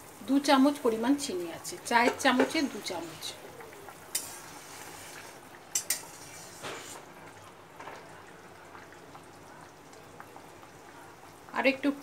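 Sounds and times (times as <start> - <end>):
broth bubbling in a wok: 0.0 - 12.0.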